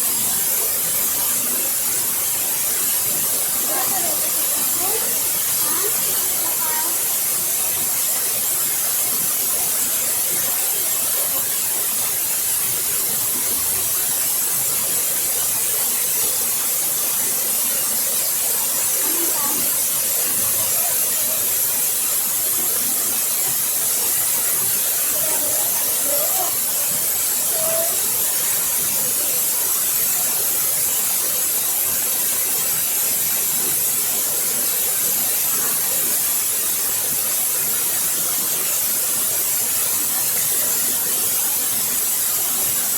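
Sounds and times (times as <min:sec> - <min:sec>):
waterfall rushing and hissing: 0:00.0 - 0:42.9.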